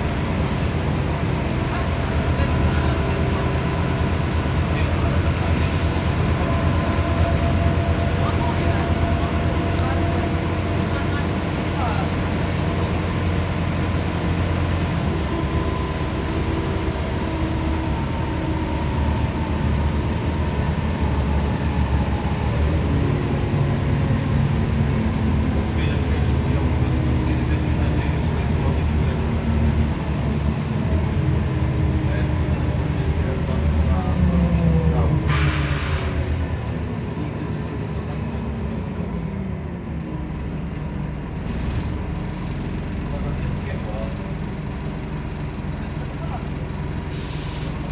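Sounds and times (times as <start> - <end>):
bus engine rumble: 0.0 - 47.9
road noise: 0.0 - 47.9.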